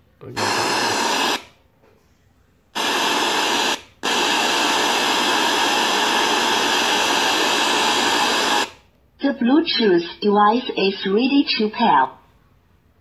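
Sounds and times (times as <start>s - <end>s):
radio static hiss: 0.2s - 1.6s, 2.8s - 12.1s.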